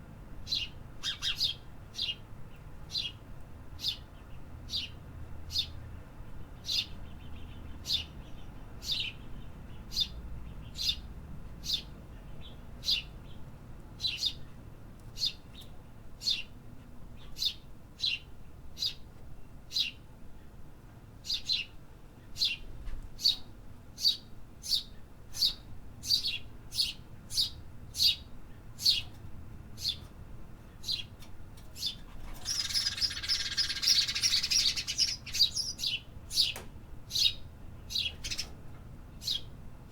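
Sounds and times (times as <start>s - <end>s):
small birds chirping: 0.4s - 20.6s, 21.2s - 39.6s.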